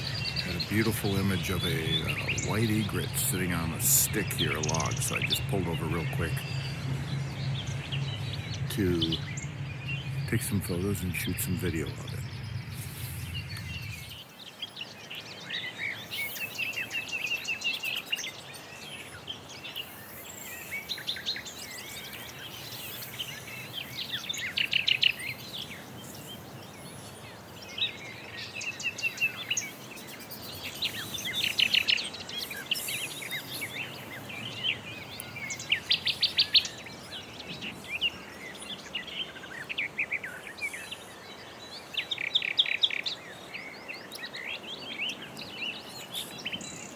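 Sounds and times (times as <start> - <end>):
outdoor background hiss: 0.0 - 46.9
songbirds trilling: 0.0 - 46.9.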